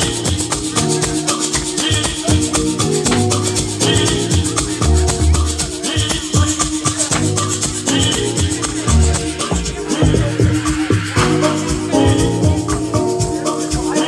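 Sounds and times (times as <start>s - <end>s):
loud dance music: 0.0s - 14.0s.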